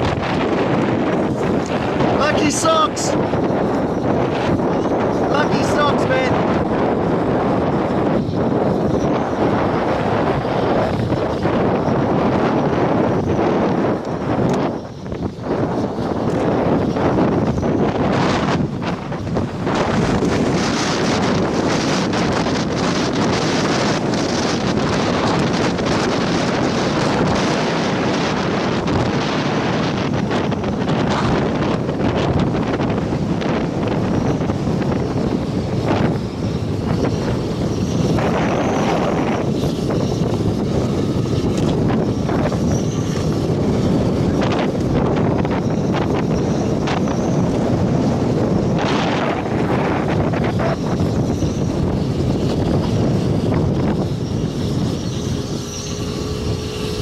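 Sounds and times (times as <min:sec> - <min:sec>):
strong wind buffeting a car: 0:00.0 - 0:57.0.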